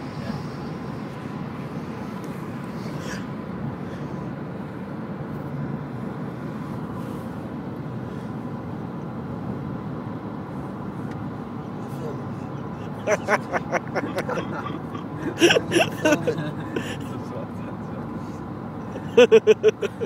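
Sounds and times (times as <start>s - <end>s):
car cabin road and engine noise: 0.0s - 20.0s.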